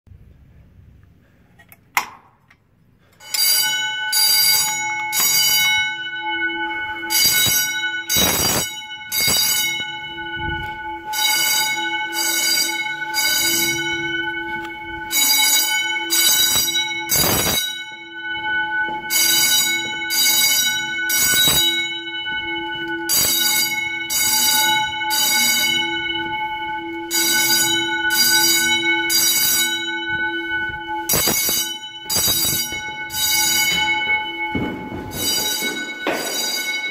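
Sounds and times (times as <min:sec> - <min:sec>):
fire alarm bells ringing: 0:03.0 - 0:36.9.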